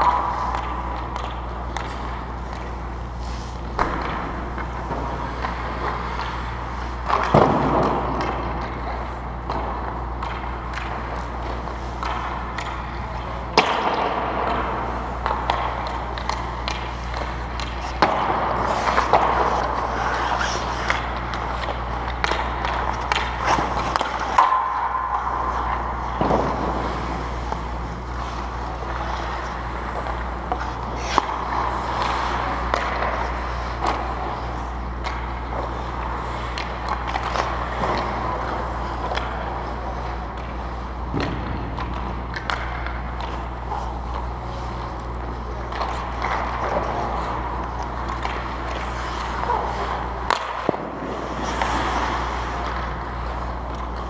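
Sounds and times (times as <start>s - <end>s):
skate blades scraping on ice: 0.0s - 9.2s, 9.9s - 40.9s, 41.8s - 54.0s
hockey sticks and pucks clacking: 0.0s - 54.0s
low indoor rink hum: 0.0s - 54.0s.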